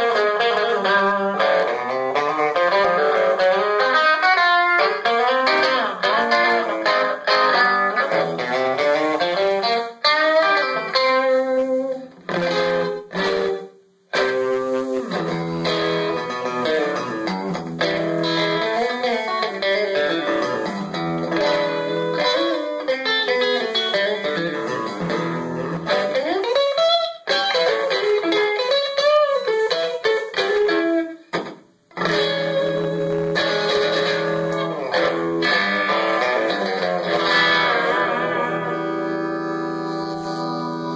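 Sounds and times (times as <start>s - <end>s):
overdriven electric guitar: 0.0s - 40.9s.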